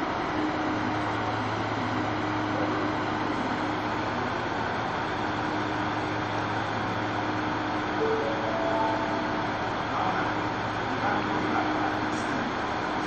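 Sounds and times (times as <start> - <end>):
diesel railcar engine idling: 0.0 - 13.0
station noise rumble: 0.0 - 13.0.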